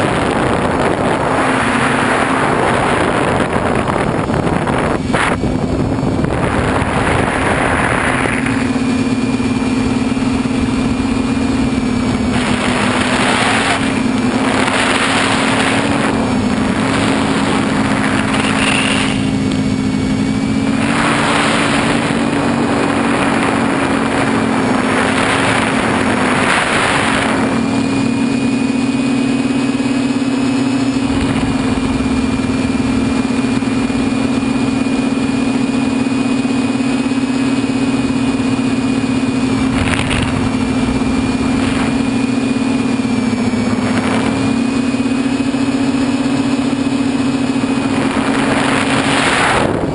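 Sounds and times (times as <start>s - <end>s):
drone propellers droning: 0.0s - 49.9s
wind on microphone: 0.0s - 49.9s.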